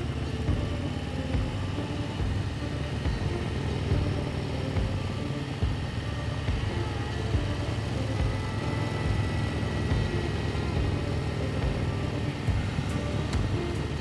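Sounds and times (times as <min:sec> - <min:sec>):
motorcycle engine rumbling: 0:00.0 - 0:14.0
rushing noise: 0:00.0 - 0:14.0.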